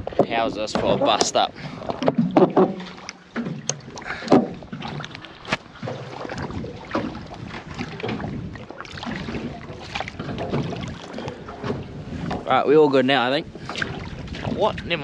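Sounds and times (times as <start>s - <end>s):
knocks and clunks on a boat: 0.0s - 15.0s.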